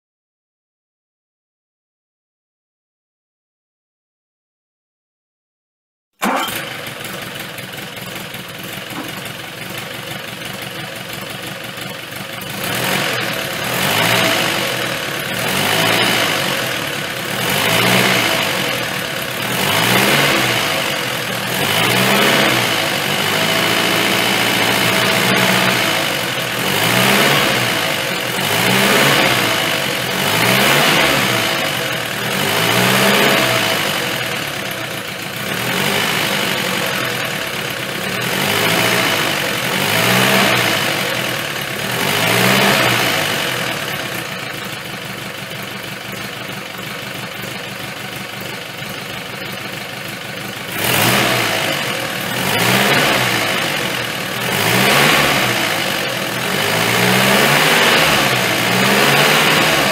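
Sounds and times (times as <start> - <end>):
car engine idling and revving: 6.2 - 59.9.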